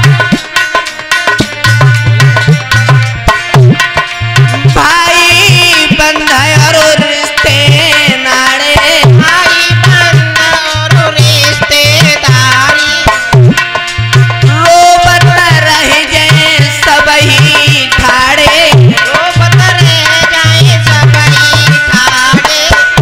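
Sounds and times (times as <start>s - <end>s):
hand drum rhythm: 0.0s - 23.0s
man singing: 1.3s - 23.0s.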